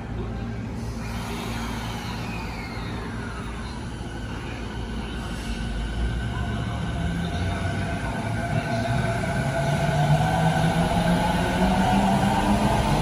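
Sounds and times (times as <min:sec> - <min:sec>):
train motors humming: 0:00.0 - 0:13.0.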